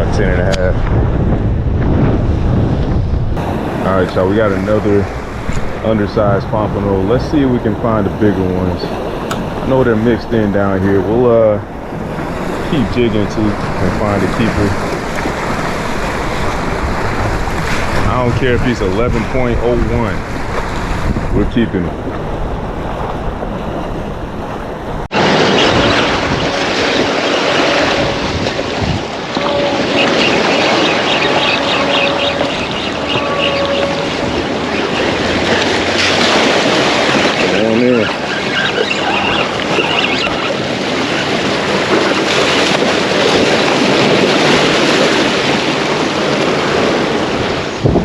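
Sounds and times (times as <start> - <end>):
strong wind: 0.0 - 48.0
surf: 0.0 - 48.0
wind buffeting microphone: 0.0 - 48.0
rushing water: 2.8 - 48.0.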